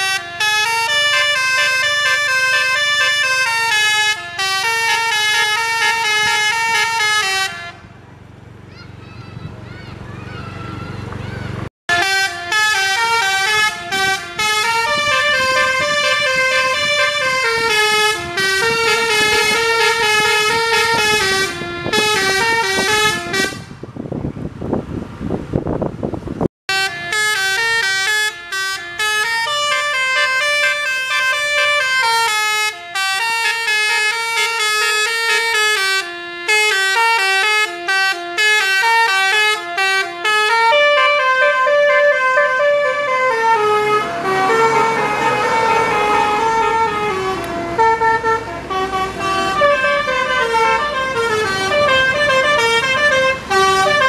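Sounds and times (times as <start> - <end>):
multi-tone bus horn melody: 0.0 - 8.0, 10.8 - 23.9, 26.7 - 54.0
engine and road noise: 0.0 - 54.0.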